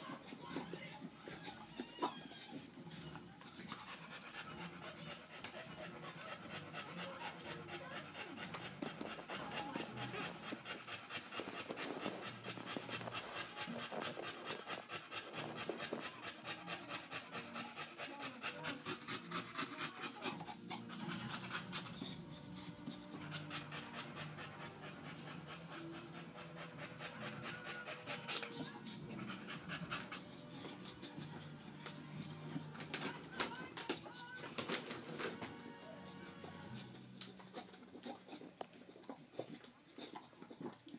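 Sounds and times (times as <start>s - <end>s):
dog panting quickly: 0.0s - 35.7s, 36.6s - 40.9s.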